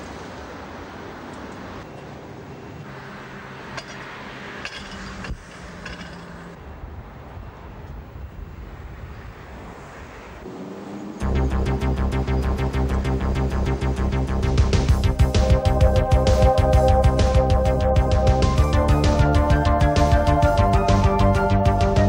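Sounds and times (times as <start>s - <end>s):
electric tram humming and rolling: 0.0s - 22.0s.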